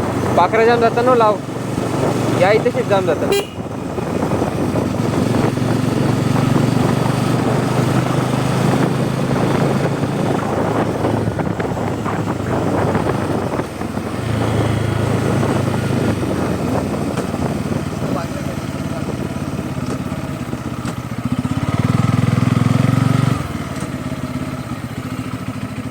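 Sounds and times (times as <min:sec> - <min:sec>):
motorcycle engine running: 0:00.0 - 0:25.9
road and wind noise: 0:00.0 - 0:25.9.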